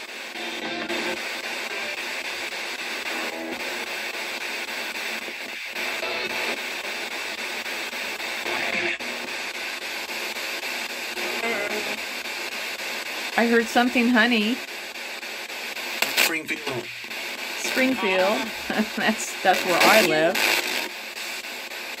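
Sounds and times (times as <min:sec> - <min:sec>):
radio static: 0:00.0 - 0:22.0
snatches of radio broadcast: 0:00.0 - 0:22.0.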